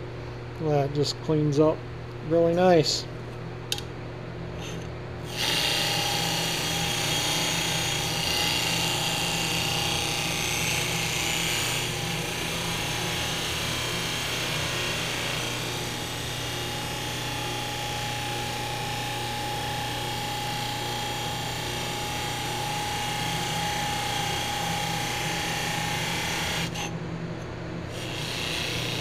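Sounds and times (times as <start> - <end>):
bench buffer humming: 0.0 - 29.0.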